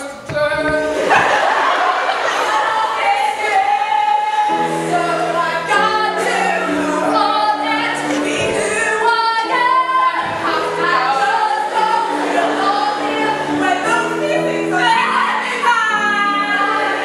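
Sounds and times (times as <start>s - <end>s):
voices singing in two parts: 0.0s - 17.0s.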